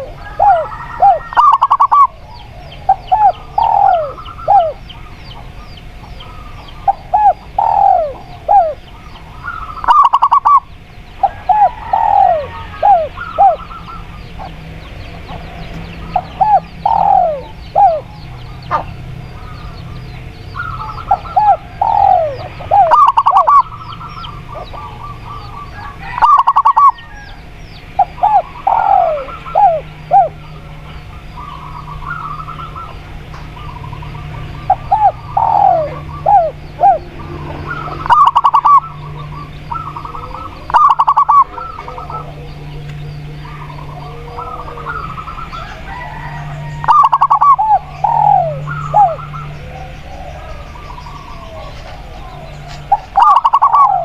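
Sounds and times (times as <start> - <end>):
doves cooing: 0.0 - 54.0
steady low hum: 0.0 - 54.0.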